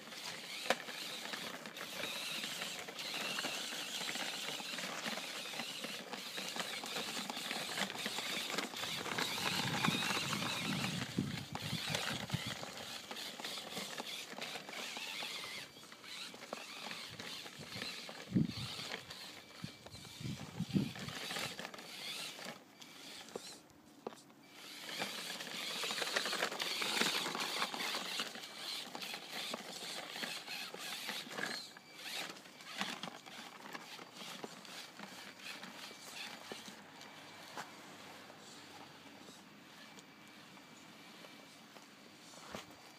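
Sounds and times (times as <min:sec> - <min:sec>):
rc car motor whirring: 0:00.0 - 0:41.6.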